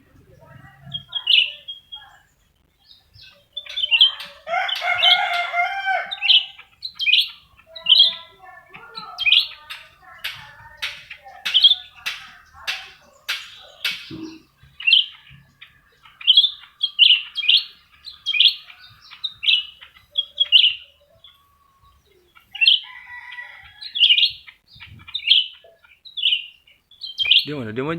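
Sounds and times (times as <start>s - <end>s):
songbirds singing: 0.0s - 27.9s.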